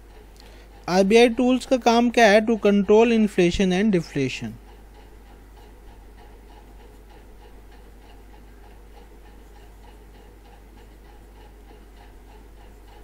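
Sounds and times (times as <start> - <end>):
low electrical hum: 0.0 - 13.0
quick faint ticking: 0.1 - 13.0.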